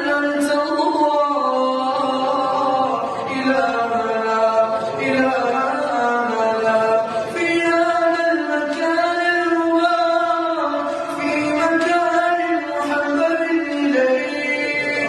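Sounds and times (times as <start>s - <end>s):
boy chanting a prayer: 0.0s - 15.0s.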